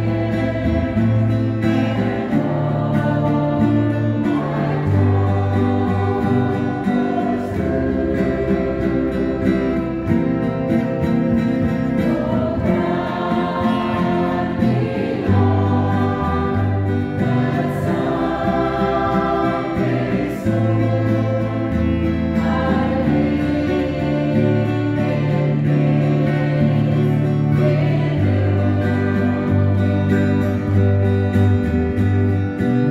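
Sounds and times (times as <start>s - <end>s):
choir singing a hymn: 0.0s - 31.7s
strummed acoustic guitars: 0.0s - 32.9s.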